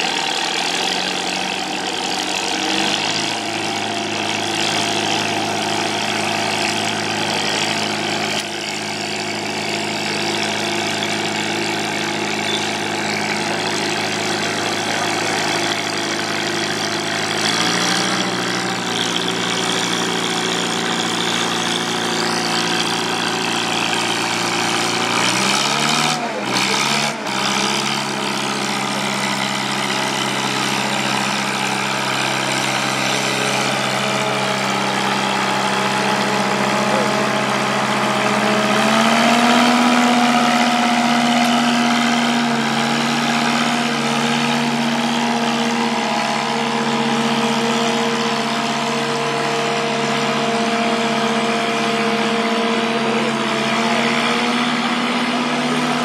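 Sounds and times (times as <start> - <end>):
tractor engine under load: 0.0 - 56.0.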